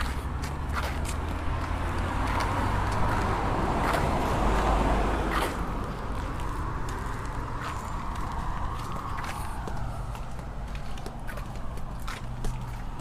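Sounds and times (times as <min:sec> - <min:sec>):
car passing by: 0:00.0 - 0:13.0
low road rumble: 0:00.0 - 0:13.0.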